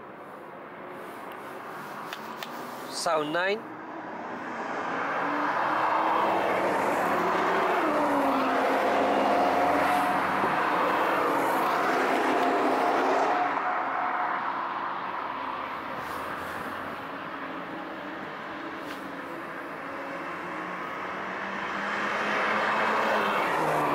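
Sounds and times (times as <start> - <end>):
race car engines at speed: 0.0 - 23.9.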